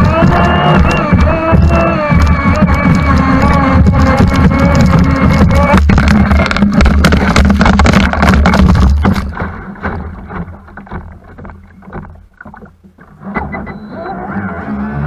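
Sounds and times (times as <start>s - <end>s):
dull splashes: 0.0s - 13.2s
boat engine hum: 0.0s - 15.0s.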